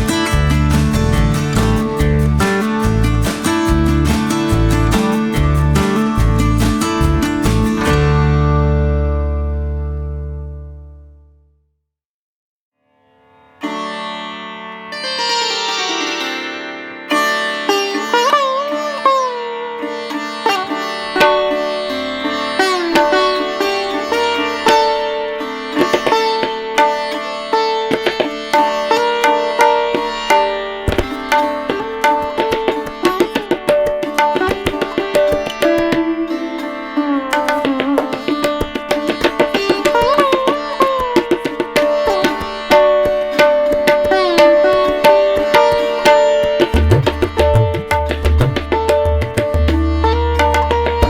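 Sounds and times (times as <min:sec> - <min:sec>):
plucked string melody: 0:00.0 - 0:11.2, 0:13.1 - 0:51.0.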